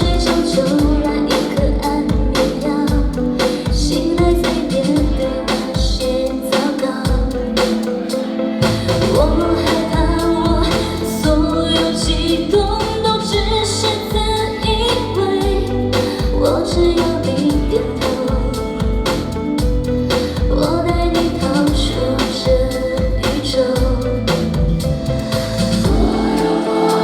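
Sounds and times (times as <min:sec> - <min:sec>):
woman singing: 0:00.0 - 0:24.9, 0:25.6 - 0:27.0
steady drum beat: 0:00.0 - 0:27.0.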